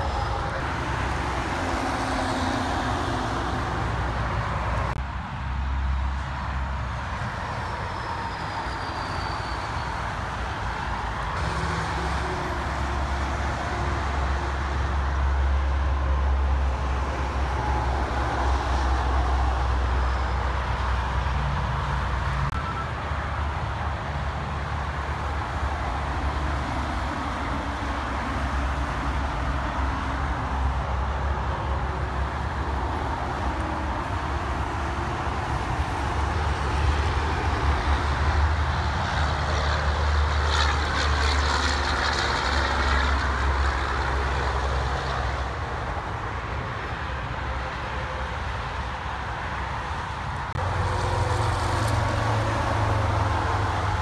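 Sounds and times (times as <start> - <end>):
dump trucks diesel rumble: 0.0 - 54.0
highway traffic rush: 0.0 - 54.0.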